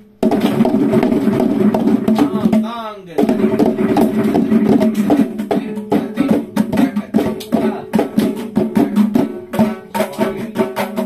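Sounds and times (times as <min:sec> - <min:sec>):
hand drums playing fast strokes: 0:00.2 - 0:11.0.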